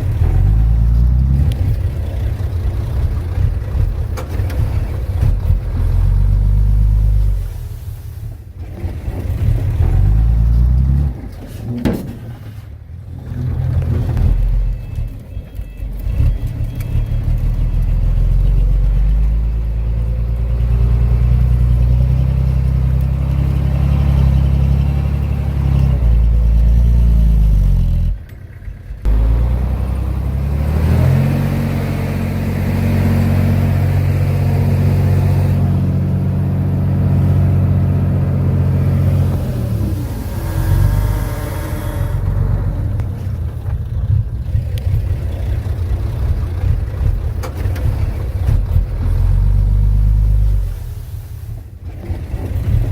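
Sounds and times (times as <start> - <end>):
bulldozer diesel engine under load: 0.0 - 52.9.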